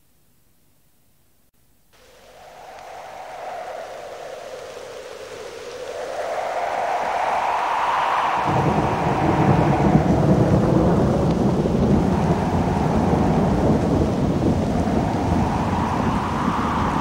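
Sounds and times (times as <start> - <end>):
rain hissing: 2.0 - 17.0
thunder rumbling: 2.0 - 17.0.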